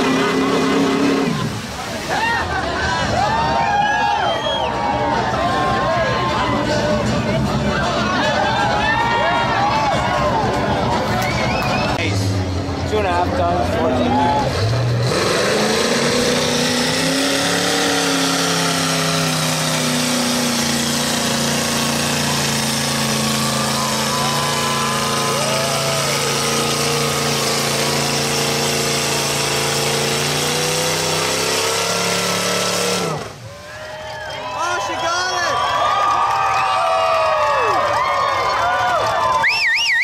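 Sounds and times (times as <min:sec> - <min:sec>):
truck engine revving hard: 0:00.0 - 0:33.6.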